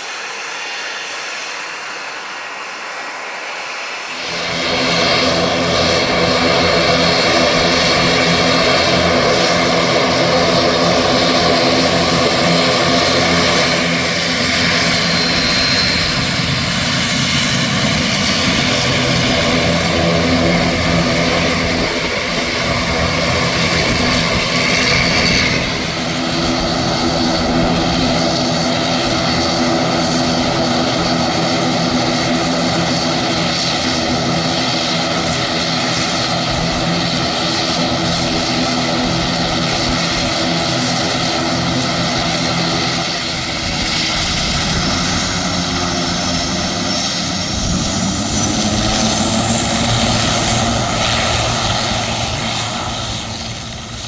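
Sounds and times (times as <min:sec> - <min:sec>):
airliner engines running: 0:00.0 - 0:54.0
high engine whine: 0:00.0 - 0:54.0.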